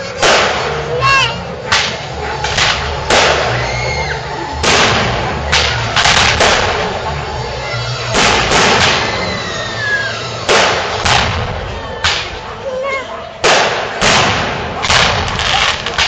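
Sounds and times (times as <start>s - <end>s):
fireworks bangs: 0.0s - 12.5s, 13.4s - 16.0s.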